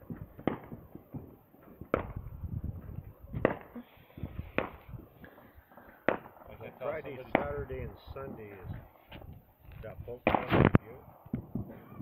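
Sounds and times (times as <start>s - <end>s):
distant fireworks bangs and pops: 0.0s - 12.0s.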